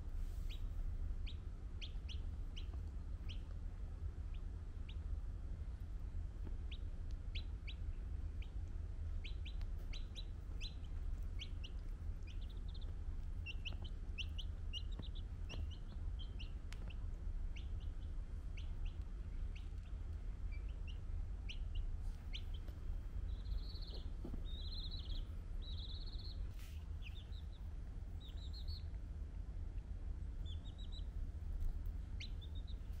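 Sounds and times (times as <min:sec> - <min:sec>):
baby chick peeping: 0:00.0 - 0:33.0
steady low hum: 0:00.0 - 0:33.0.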